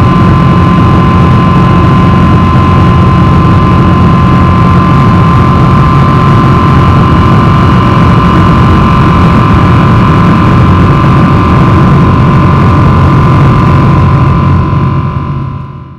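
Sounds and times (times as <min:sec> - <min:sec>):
jet engines rumbling and whining: 0:00.0 - 0:15.9.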